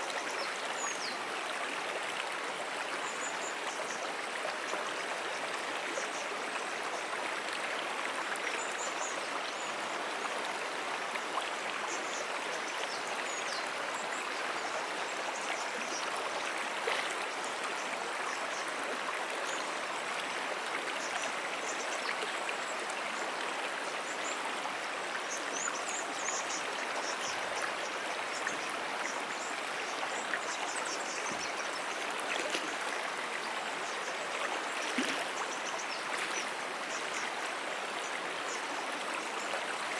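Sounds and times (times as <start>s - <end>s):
brook flowing over stones: 0.0s - 39.9s.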